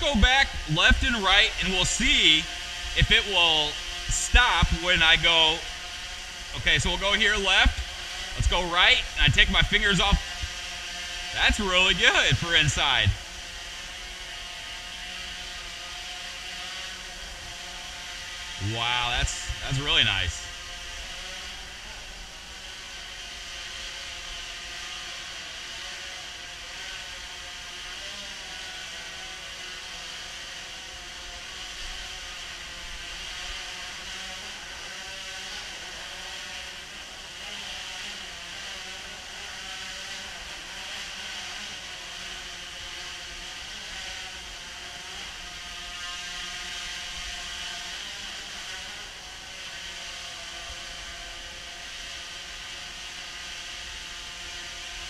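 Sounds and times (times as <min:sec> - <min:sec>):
drone propellers whirring: 0:00.0 - 0:55.0.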